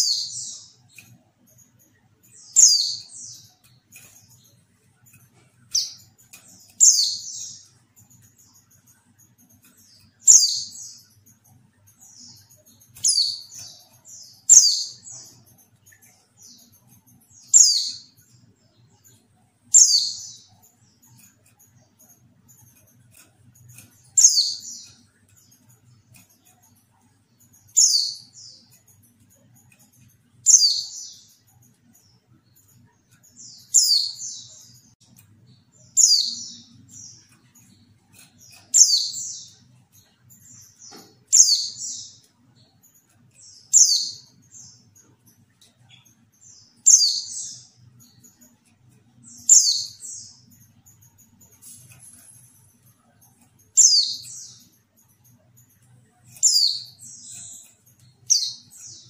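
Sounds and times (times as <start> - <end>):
bird high chirps: 0.0 - 59.0.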